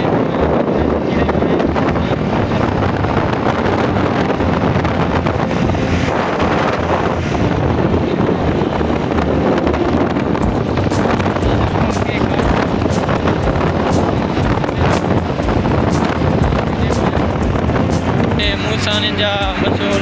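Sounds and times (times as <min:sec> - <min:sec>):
traffic noise: 0:00.0 - 0:20.0
wind buffeting microphone: 0:00.0 - 0:20.0.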